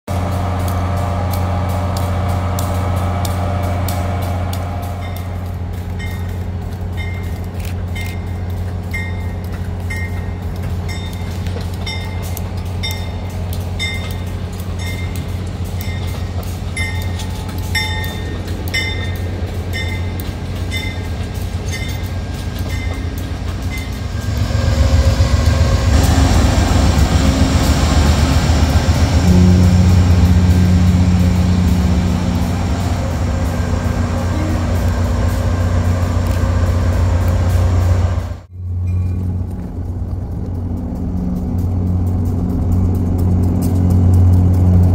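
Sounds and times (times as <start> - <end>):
diesel locomotive droning: 0.0 - 44.9
train bell ringing: 0.1 - 39.9.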